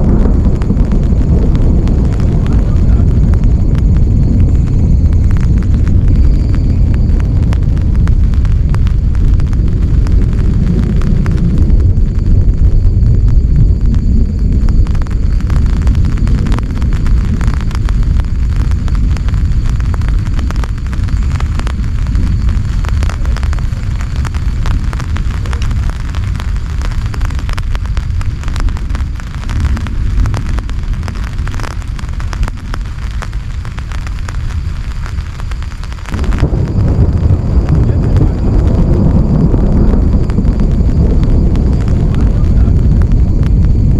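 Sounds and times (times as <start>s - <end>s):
heavy rain on a tent: 0.0s - 43.9s.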